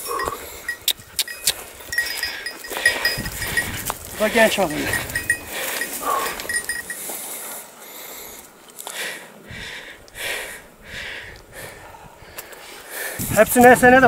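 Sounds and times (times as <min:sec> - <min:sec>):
dog breathing hard: 0:00.0 - 0:13.2.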